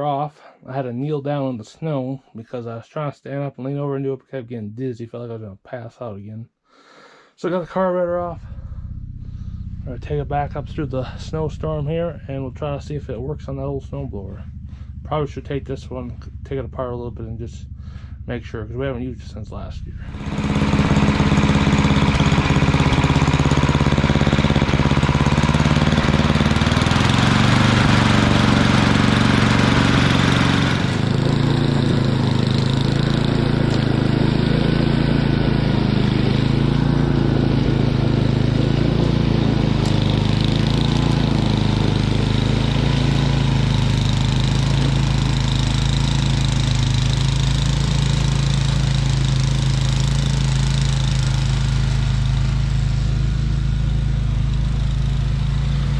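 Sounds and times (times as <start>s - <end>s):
snowblower engine running: 8.2s - 16.5s, 17.7s - 18.3s, 19.8s - 55.9s.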